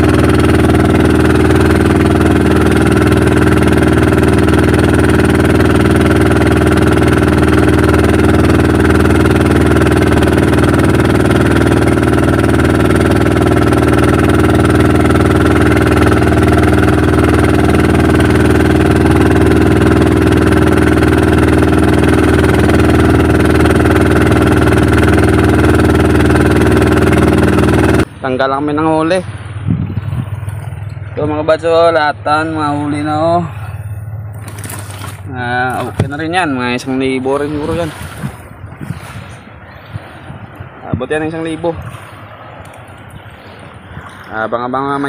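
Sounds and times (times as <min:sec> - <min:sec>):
boat engine running: 0:00.0 - 0:45.0.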